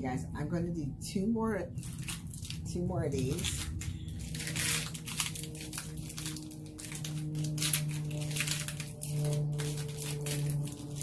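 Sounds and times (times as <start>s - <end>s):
candy wrappers crinkling: 1.7s - 11.0s.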